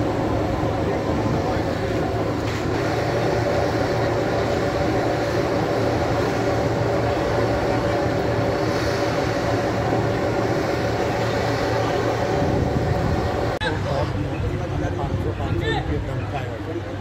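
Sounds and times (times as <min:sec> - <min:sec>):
even rushing noise: 0:00.0 - 0:16.1
fire engine engine drone: 0:00.0 - 0:17.0.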